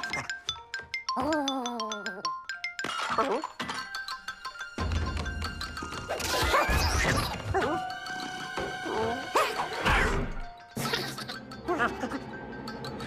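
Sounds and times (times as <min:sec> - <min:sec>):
cartoon music: 0:00.0 - 0:13.0.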